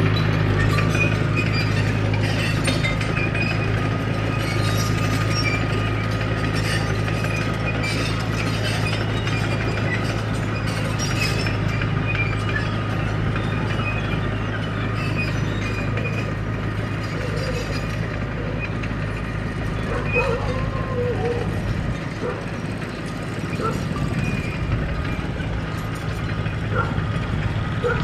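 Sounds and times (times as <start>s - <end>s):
bulldozer diesel engine running: 0.0s - 28.0s
metallic clinking of steel tracks: 0.0s - 28.0s.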